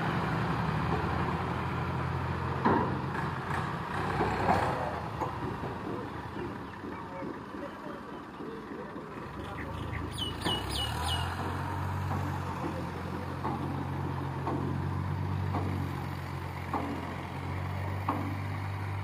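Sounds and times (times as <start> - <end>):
tractor diesel engine running: 0.0 - 19.0
trailer clunking: 0.0 - 19.0.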